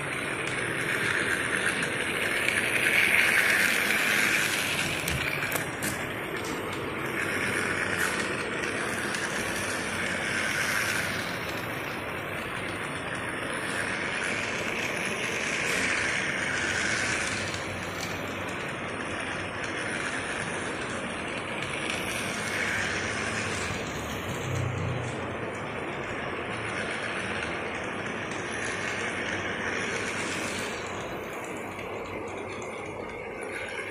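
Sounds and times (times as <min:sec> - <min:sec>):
toy train whirring rattle: 0:00.0 - 0:33.9.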